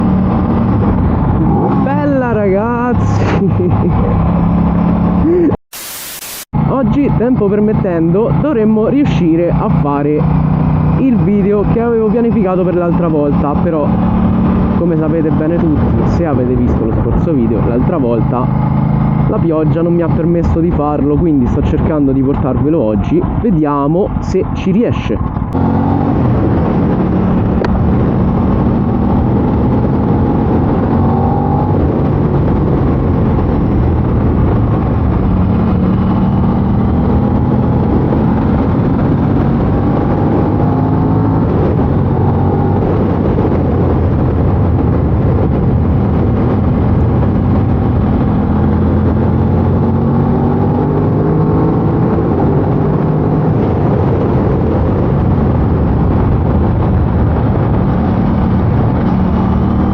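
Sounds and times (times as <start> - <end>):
motorcycle engine revving: 0.0 - 5.5, 6.6 - 16.8, 17.4 - 23.4, 25.1 - 59.9.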